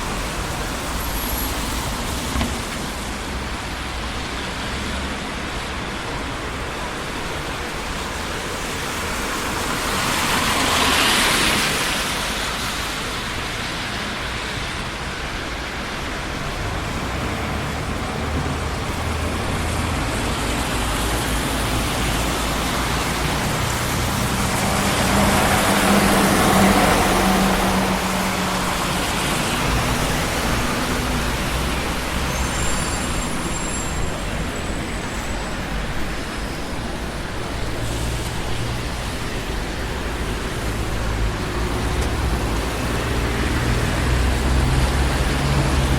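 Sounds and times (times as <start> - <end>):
city street traffic: 0.0 - 45.9
heavy vehicle engine hum: 0.0 - 45.9.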